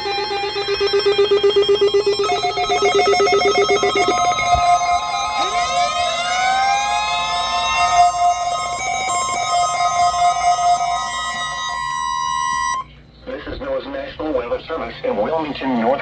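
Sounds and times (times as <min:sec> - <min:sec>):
rising tone sweep: 0:00.0 - 0:12.8
electronic alarm tones pulsing: 0:00.0 - 0:12.9.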